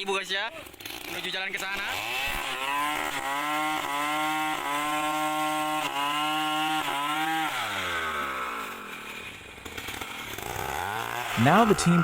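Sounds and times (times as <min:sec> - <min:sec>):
chainsaw cutting at full throttle: 0:00.0 - 0:12.0.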